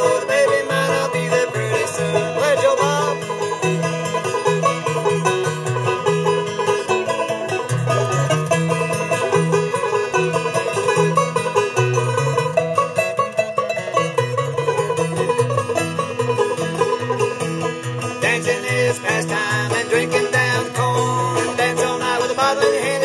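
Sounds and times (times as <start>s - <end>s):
bluegrass band playing: 0.0s - 23.0s.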